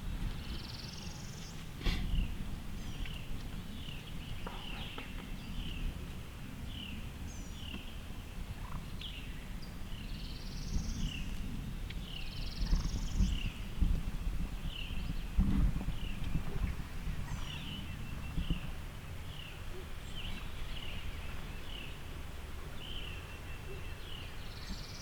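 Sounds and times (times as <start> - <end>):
low wind rumble: 0.0 - 25.0
songbirds chirping: 0.2 - 25.0.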